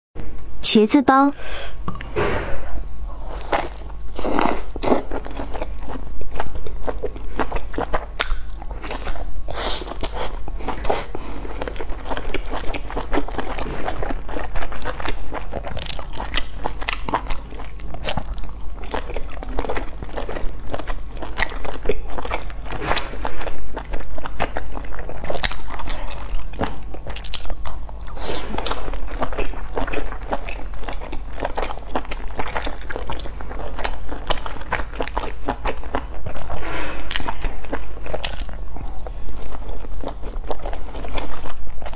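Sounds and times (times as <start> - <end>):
low steady hum: 0.2 - 41.9
person biting and chewing: 3.2 - 41.9.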